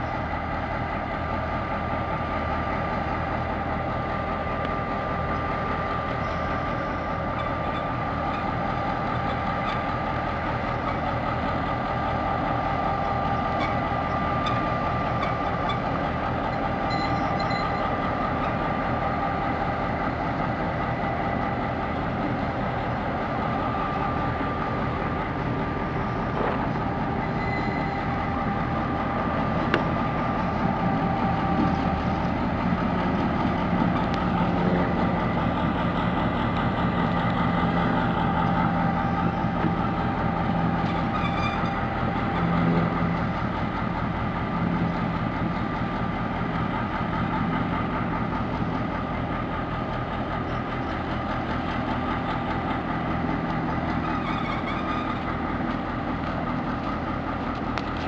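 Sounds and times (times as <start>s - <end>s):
locomotive diesel engine running: 0.0s - 58.0s.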